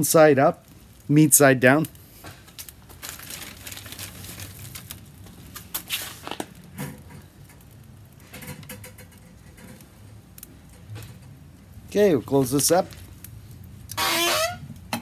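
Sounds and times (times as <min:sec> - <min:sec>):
ribs laid on metal grill grate: 0:00.0 - 0:14.6.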